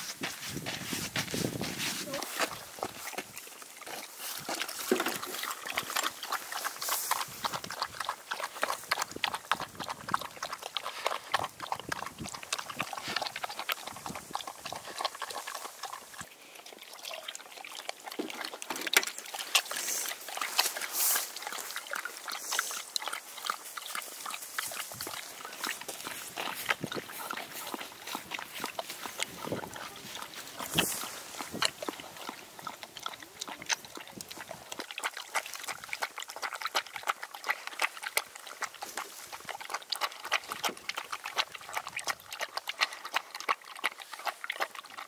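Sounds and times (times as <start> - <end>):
dog lapping from a bowl: 0.6 - 45.0.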